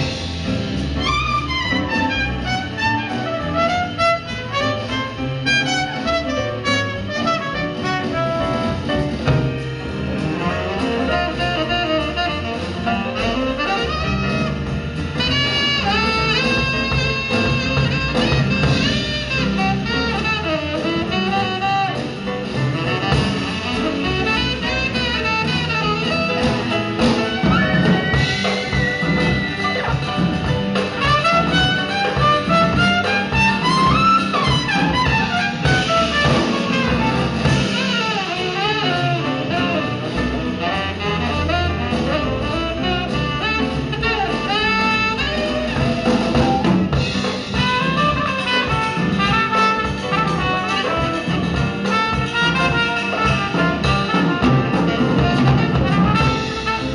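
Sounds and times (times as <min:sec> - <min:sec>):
bass: 0:00.0 - 0:56.9
drums: 0:00.0 - 0:56.9
horn playing jazz melody: 0:00.0 - 0:56.9.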